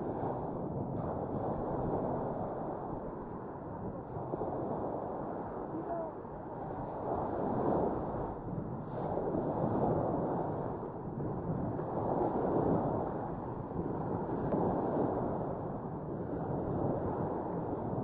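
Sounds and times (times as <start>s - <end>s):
small waves washing on beach: 0.0s - 18.0s
wind rumbling on microphone: 0.0s - 18.0s.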